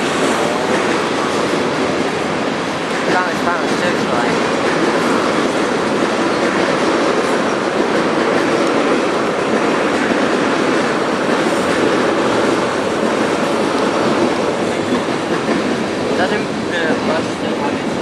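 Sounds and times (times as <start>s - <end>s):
train wheels rolling on track: 0.0s - 18.0s.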